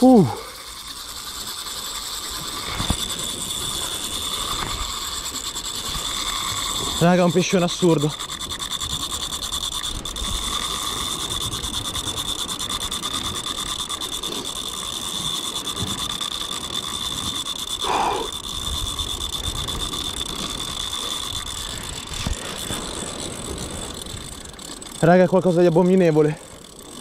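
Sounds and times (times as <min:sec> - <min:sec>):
fishing reel drag clicking: 0:00.0 - 0:27.0.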